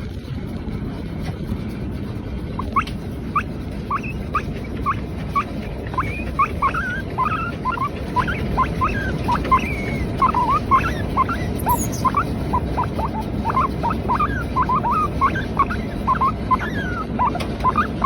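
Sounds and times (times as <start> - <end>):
steady low rumble: 0.0 - 18.0
guinea pig squeaking: 2.2 - 18.0.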